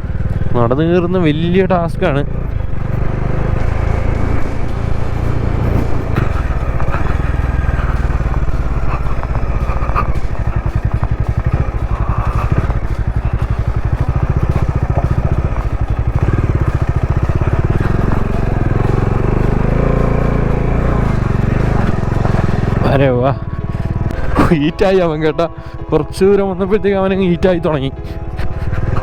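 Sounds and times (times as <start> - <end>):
motorcycle engine throbbing uphill: 0.0 - 29.0.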